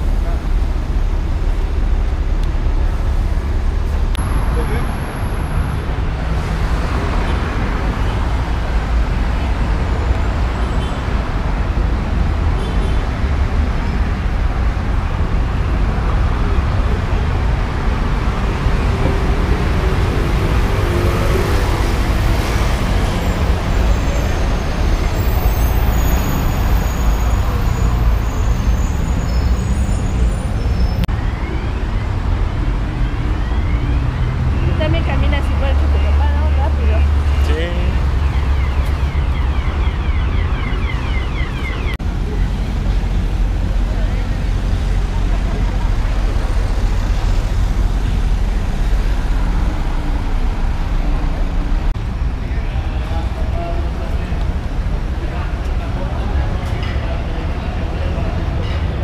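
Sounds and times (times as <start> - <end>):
road traffic noise: 0.0 - 59.0.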